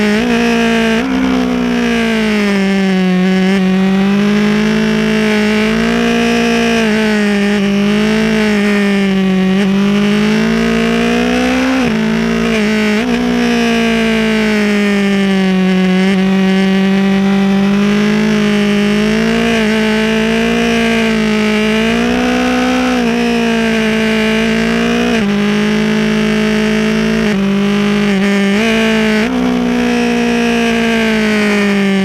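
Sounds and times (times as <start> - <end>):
motorcycle engine revving hard: 0.0 - 32.0.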